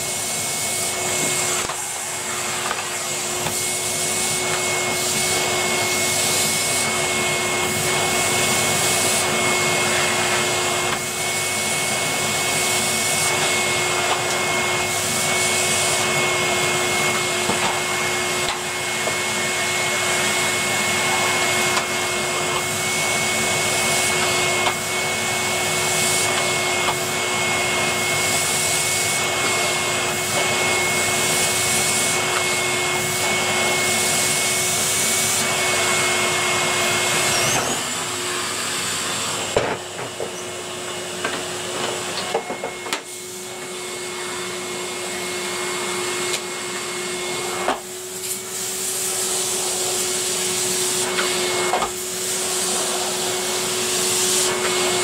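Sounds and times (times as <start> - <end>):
vacuum cleaner motor whine: 0.0 - 55.0.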